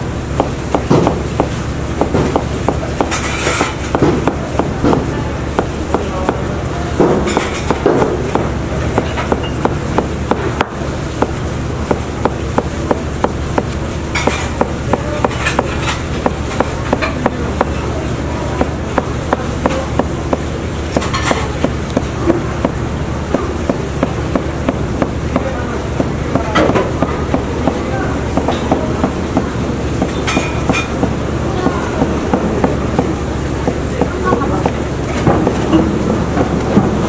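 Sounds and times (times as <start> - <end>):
low background hum: 0.0 - 37.0
knife chopping dough on board: 0.3 - 36.8.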